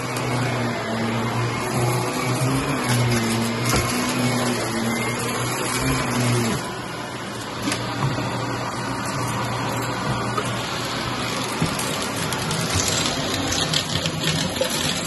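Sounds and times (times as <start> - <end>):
upright vacuum cleaner running: 0.0 - 15.0.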